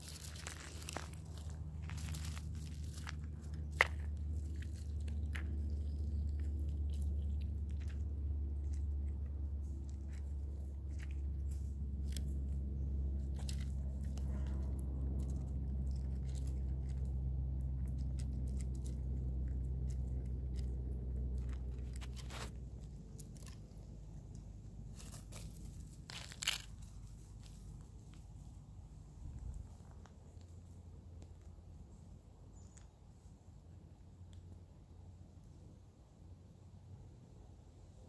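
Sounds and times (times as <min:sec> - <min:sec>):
chipmunk crunching seeds: 0:00.0 - 0:34.8.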